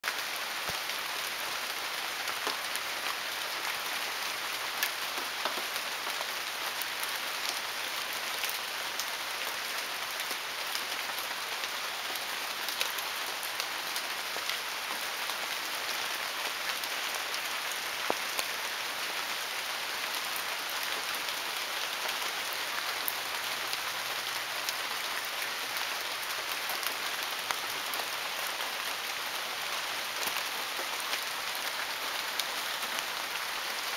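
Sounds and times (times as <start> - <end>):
raindrops pattering on surfaces: 0.0 - 33.9.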